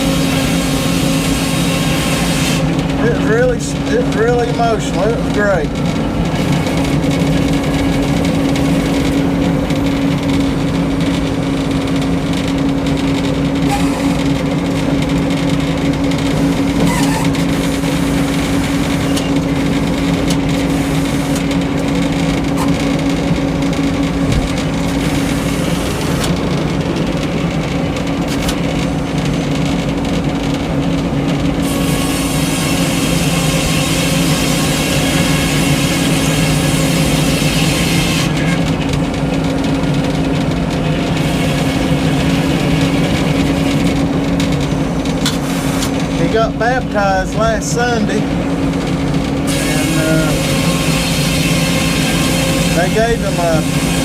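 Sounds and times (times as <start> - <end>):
sawmill humming: 0.0 - 54.0.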